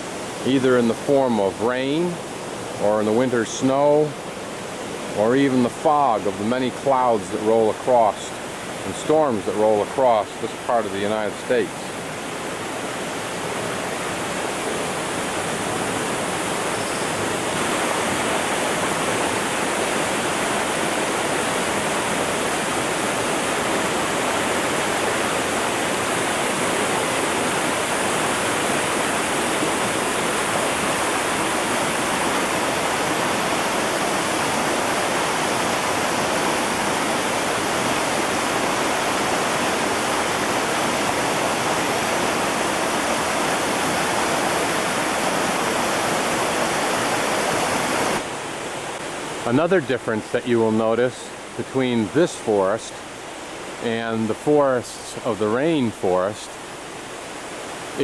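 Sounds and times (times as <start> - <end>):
mountain stream rushing: 0.0 - 58.0.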